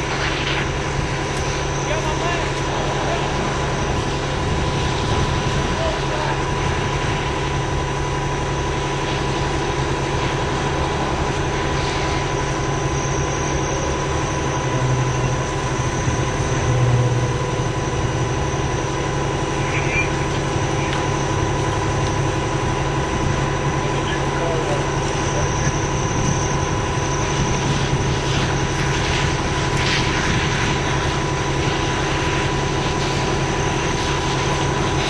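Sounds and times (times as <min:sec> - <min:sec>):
heavy vehicle engines idling: 0:00.0 - 0:35.0
thin constant whine: 0:00.0 - 0:35.0.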